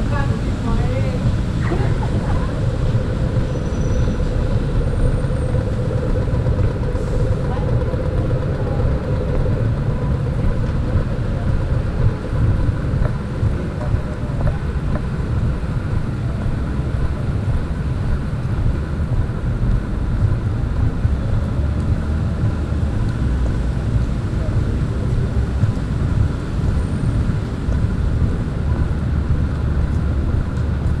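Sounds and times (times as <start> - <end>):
traffic rumble: 0.0 - 31.0
wind buffeting microphone: 0.0 - 31.0.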